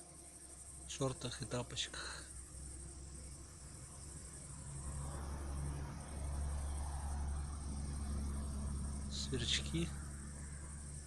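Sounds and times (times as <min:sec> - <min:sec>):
crickets chirping: 0:00.0 - 0:11.0
honeybees humming: 0:00.0 - 0:11.0.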